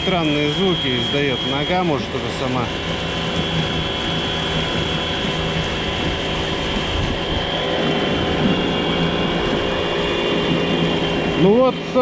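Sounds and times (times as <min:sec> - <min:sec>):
electric outboard motor running: 0:00.0 - 0:12.0
high motor whine: 0:00.0 - 0:12.0.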